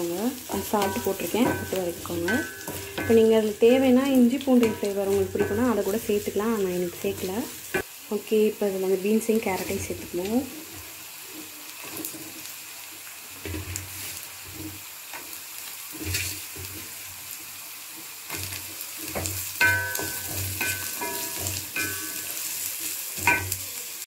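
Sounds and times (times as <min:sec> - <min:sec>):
wooden spatula scraping a wok: 0:00.0 - 0:07.9, 0:09.2 - 0:24.0
vegetables sizzling in hot oil: 0:00.0 - 0:24.0.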